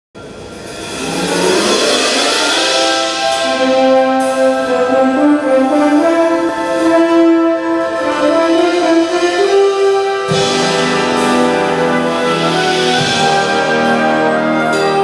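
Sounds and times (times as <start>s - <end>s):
wind band playing: 0.4s - 15.0s.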